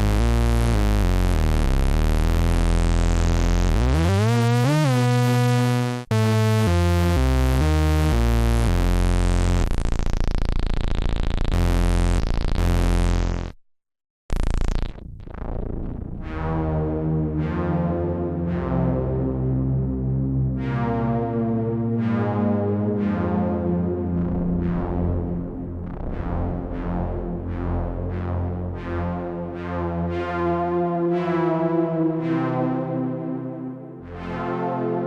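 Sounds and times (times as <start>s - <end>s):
buzzy synthesizer bass line: 0.0s - 13.6s, 14.3s - 35.0s.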